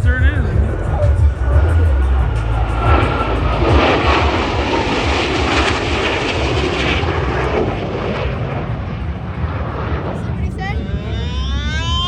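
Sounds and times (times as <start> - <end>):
aircraft flying overhead: 0.0 - 12.0.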